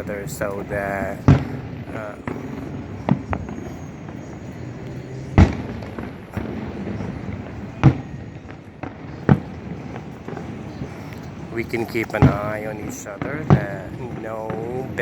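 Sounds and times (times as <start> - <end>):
faint fireworks pops: 0.0 - 15.0
fireworks booming: 0.0 - 15.0.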